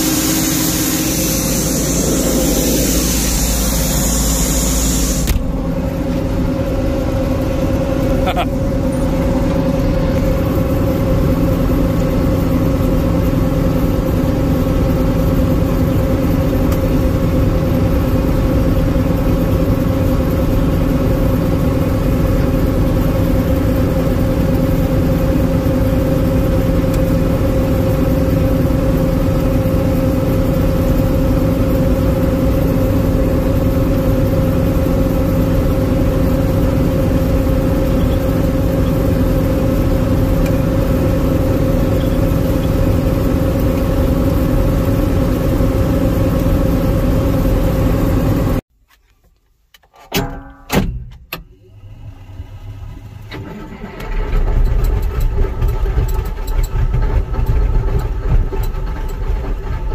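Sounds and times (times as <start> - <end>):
combine harvester drone: 0.0 - 48.6, 51.4 - 59.9.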